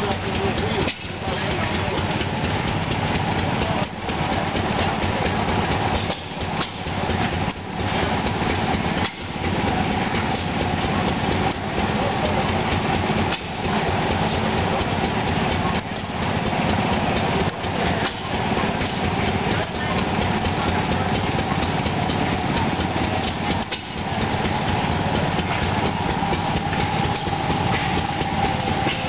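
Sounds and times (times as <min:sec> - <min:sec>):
washing machine clattering: 0:00.0 - 0:29.0.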